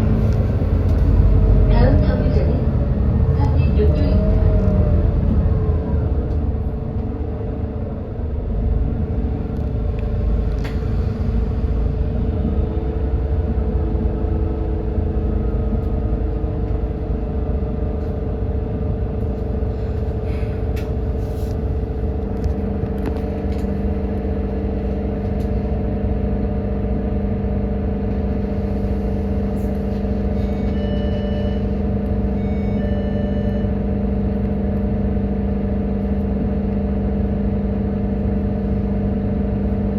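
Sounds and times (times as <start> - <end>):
bus engine drone: 0.0 - 39.9
low hum: 0.0 - 39.9.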